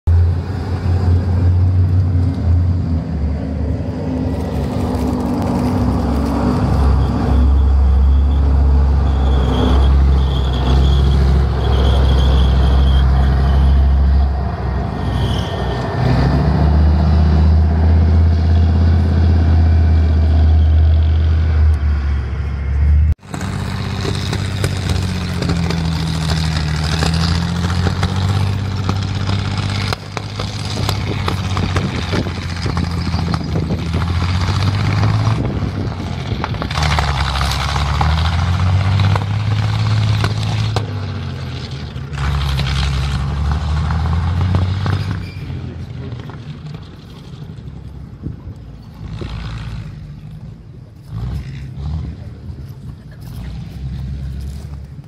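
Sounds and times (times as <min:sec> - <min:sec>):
armoured vehicle engines running: 0:00.1 - 0:55.0
tank engine: 0:00.1 - 0:55.0.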